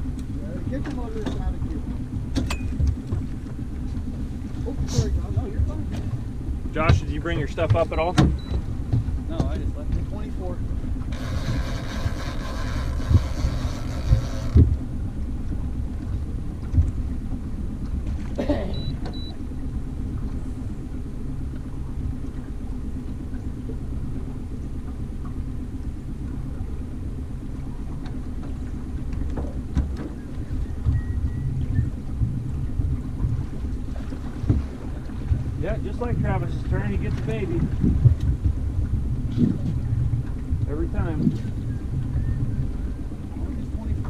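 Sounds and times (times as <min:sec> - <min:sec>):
boat motor rumbling: 0:00.0 - 0:44.0.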